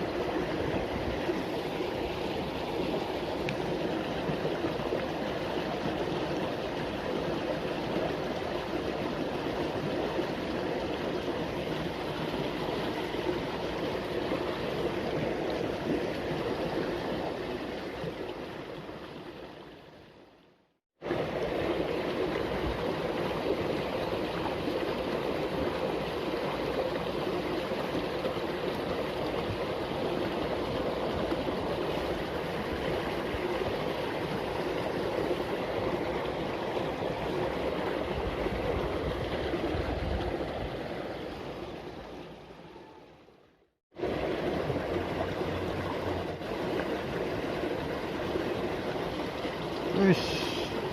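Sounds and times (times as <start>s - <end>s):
water rushing in a ditch: 0.0s - 50.9s.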